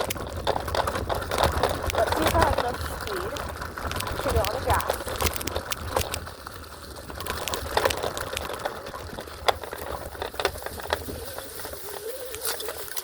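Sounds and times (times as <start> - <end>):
scooter frame rattling: 0.0 - 13.0
scooter rolling over rough ground: 0.0 - 13.0.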